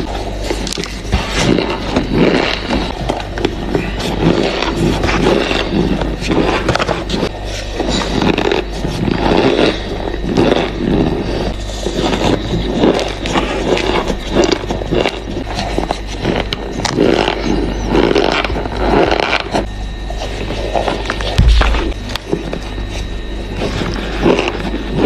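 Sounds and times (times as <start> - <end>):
crunchy chewing: 0.0 - 25.0
steady low hum: 0.0 - 25.0.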